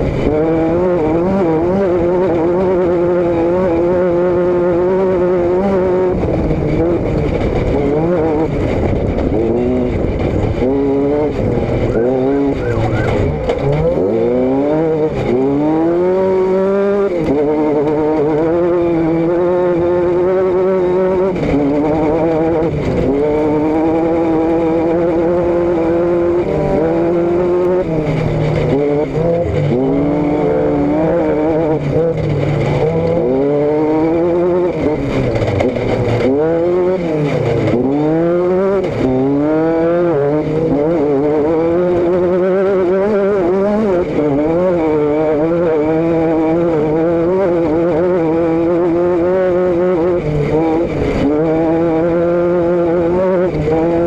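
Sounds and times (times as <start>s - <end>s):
vehicle engine and exhaust: 0.0s - 54.0s.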